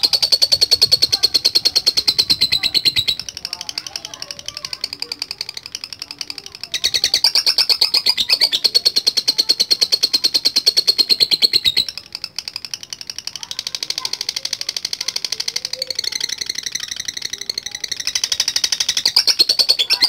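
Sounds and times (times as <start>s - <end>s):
lovebird chattering trill: 0.0s - 20.0s.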